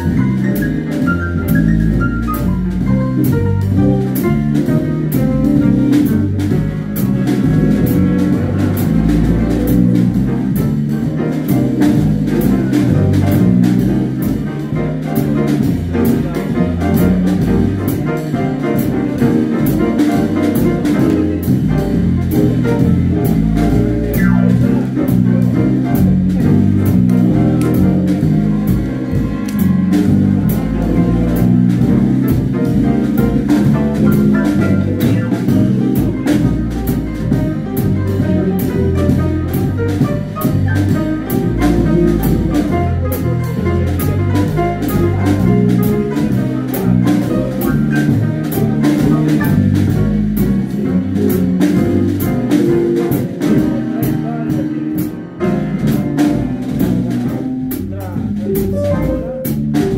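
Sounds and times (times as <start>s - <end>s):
drum kit with cymbals: 0.0s - 59.9s
guitar: 0.0s - 59.9s
upright piano: 0.0s - 59.9s.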